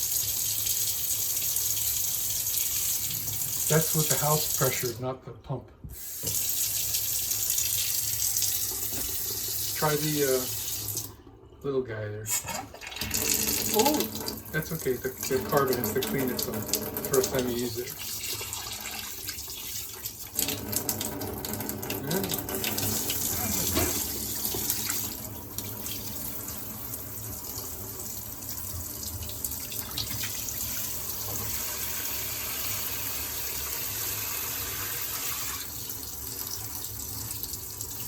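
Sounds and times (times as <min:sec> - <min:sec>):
faucet running into sink: 0:00.0 - 0:05.0, 0:06.0 - 0:11.4, 0:12.3 - 0:38.0.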